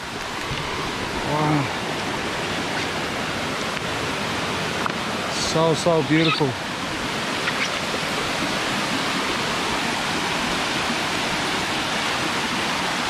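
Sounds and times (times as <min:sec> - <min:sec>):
waterfall cascading over rock: 0:00.0 - 0:13.0.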